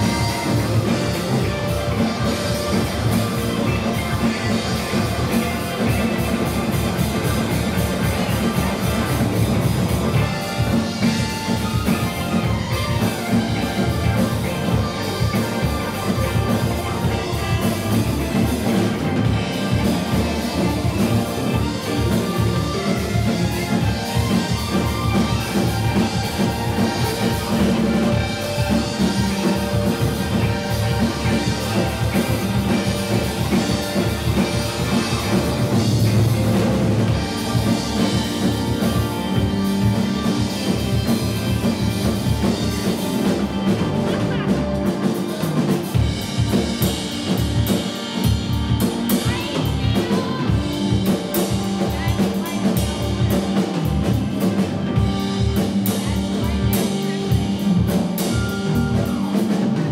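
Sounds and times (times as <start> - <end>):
drum kit: 0.0 - 59.9
electric bass: 0.0 - 59.9
electric guitar: 0.0 - 59.9
keyboards: 0.0 - 59.9.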